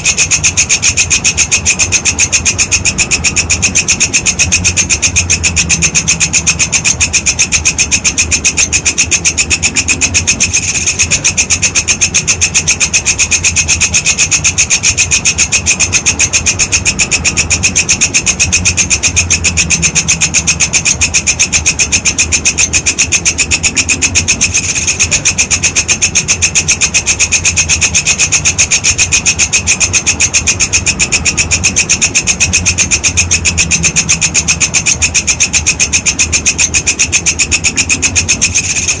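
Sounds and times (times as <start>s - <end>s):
grasshopper rasping rattle: 0.0s - 39.0s
low hum: 0.0s - 39.0s.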